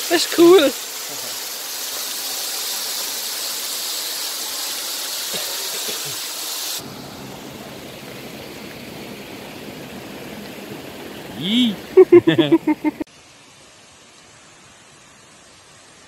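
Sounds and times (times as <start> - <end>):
mountain stream rushing water: 0.0 - 16.0.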